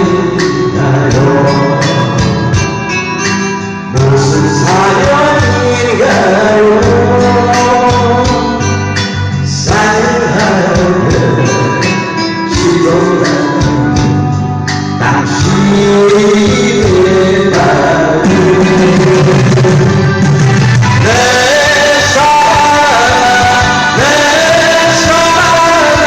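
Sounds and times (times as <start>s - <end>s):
band with guitar: 0.0s - 26.0s
man singing pop song: 0.0s - 26.0s.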